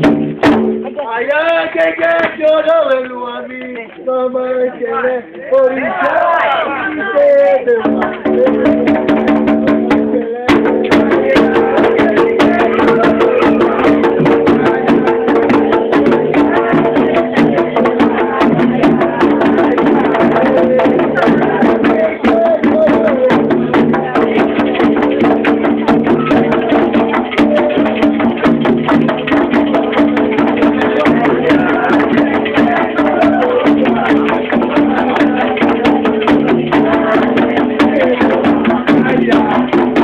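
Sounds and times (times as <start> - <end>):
clacking wood-block percussion: 0.0 - 1.0, 7.8 - 40.0
hand drums: 0.0 - 3.1, 7.3 - 40.0.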